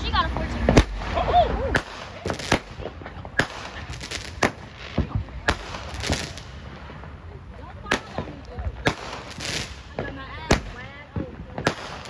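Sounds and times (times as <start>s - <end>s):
fountain firework hissing: 0.0s - 12.0s
firework cracking pops: 0.1s - 12.0s.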